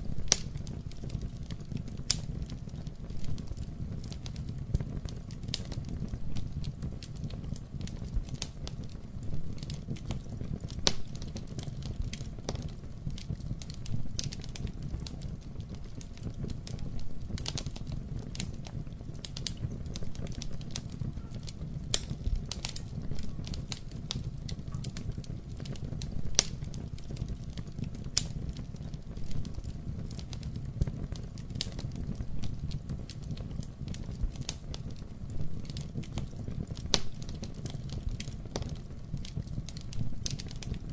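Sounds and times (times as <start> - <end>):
burning wood crackling and popping: 0.0 - 40.9
campfire flames rumbling: 0.0 - 40.9.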